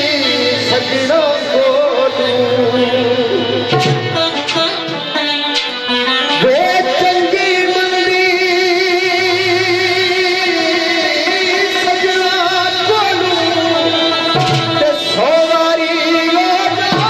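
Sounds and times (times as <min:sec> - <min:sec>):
person singing with vibrato: 0:00.0 - 0:17.0
plucked string instrument: 0:00.0 - 0:17.0.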